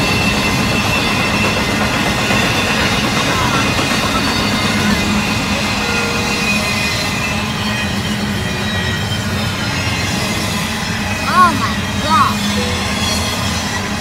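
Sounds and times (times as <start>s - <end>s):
freight train rumbling on rails: 0.0s - 14.0s.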